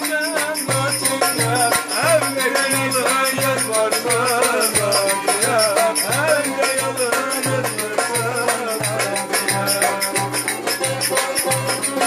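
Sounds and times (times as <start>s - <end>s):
plucked lute: 0.0s - 12.0s
quick rattling beat: 0.0s - 12.0s.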